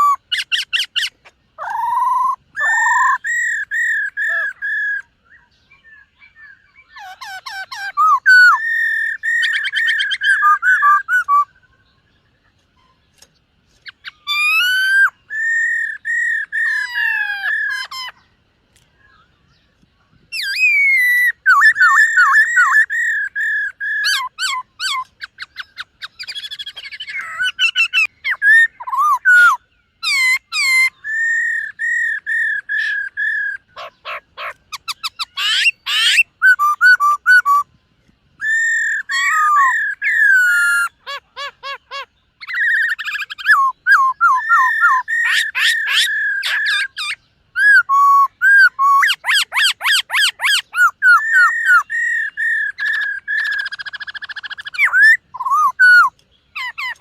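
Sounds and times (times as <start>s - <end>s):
bird singing whistled song: 0.0s - 18.3s, 18.9s - 37.8s, 38.4s - 57.0s.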